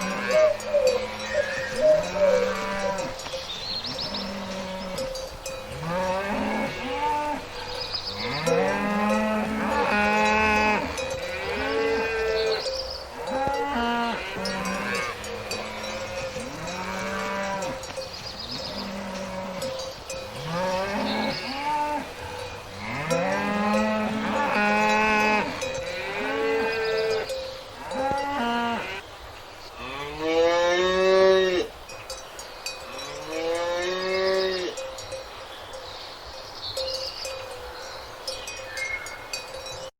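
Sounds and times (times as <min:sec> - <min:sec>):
cows mooing: 0:00.0 - 0:29.0, 0:29.8 - 0:31.8, 0:32.9 - 0:34.8.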